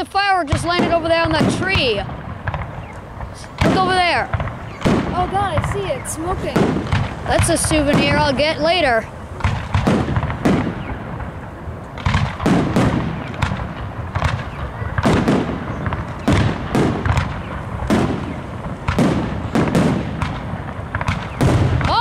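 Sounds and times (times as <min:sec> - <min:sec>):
low rumbling echo: 0:00.0 - 0:22.0
firework shells booming: 0:00.2 - 0:22.0.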